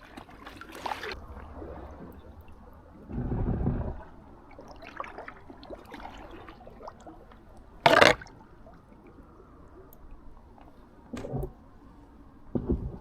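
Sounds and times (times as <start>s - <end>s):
water dripping and trickling: 0.0s - 10.8s
light water splashes: 0.0s - 13.0s.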